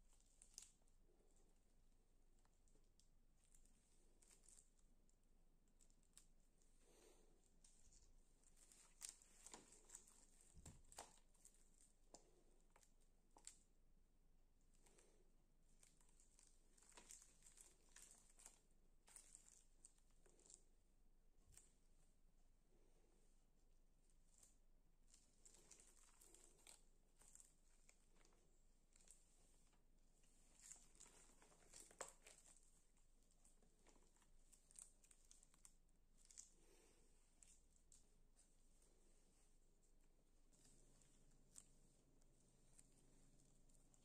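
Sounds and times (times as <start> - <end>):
silicone mould crinkling: 2.4 - 13.9, 14.6 - 22.0, 24.0 - 44.0.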